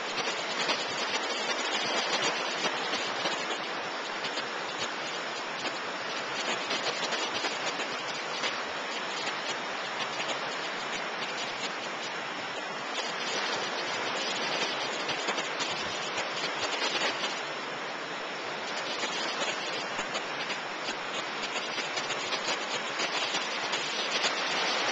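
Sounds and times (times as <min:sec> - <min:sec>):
surf washing up a beach: 0:00.0 - 0:24.9.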